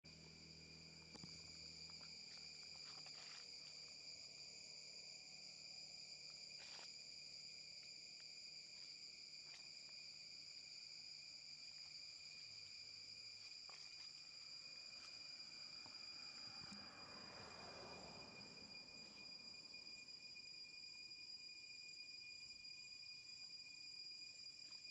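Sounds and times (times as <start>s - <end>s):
insects calling drone: 0.1s - 24.9s.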